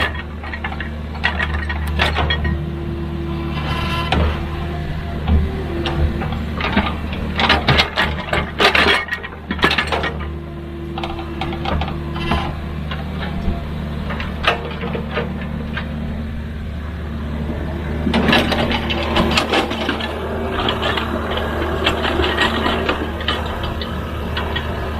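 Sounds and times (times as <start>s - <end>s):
metal clanks and rattles: 0.0s - 2.7s, 5.2s - 16.1s, 17.6s - 24.9s
excavator diesel engine running: 0.0s - 24.9s.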